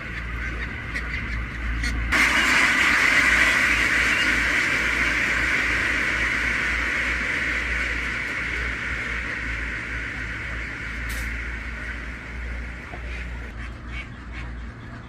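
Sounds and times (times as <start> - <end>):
flock of ducks quacking: 0.0 - 15.0
low uneven rumble: 0.0 - 15.0.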